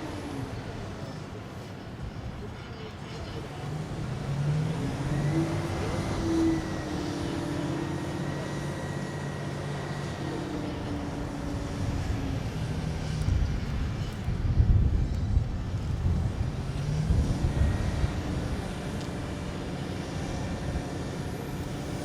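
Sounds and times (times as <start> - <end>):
helicopter rotor drone: 0.0 - 22.0
helicopter turbine whine: 3.8 - 22.0.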